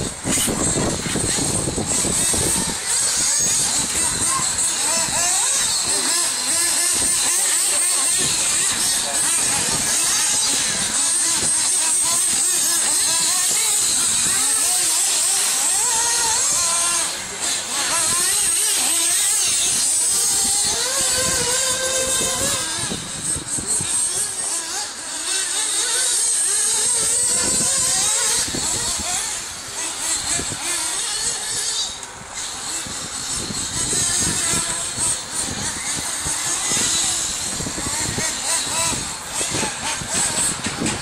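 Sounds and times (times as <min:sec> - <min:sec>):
toy car motors buzzing: 0:00.0 - 0:41.0.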